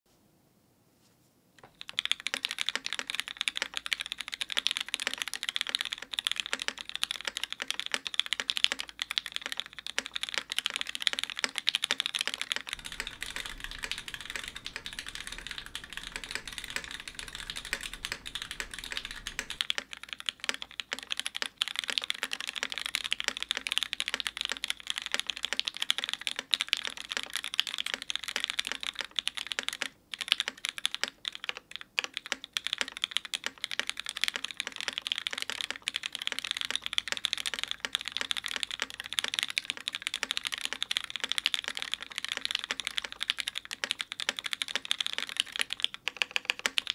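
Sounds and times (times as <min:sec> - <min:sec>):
rapid mechanical keyboard typing: 0:01.6 - 0:46.9.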